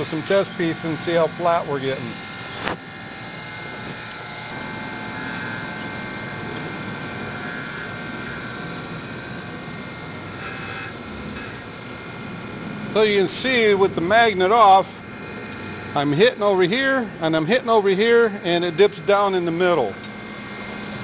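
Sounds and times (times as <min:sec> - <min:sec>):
surface grinder whine: 0:00.0 - 0:21.0.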